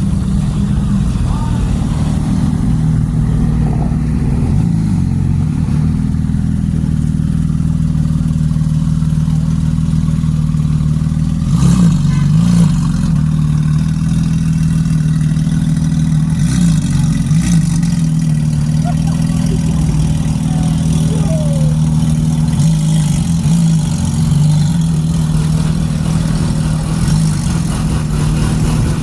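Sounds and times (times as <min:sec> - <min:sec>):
car engine idling: 0:00.0 - 0:29.0
engine throttle blips: 0:00.0 - 0:29.0.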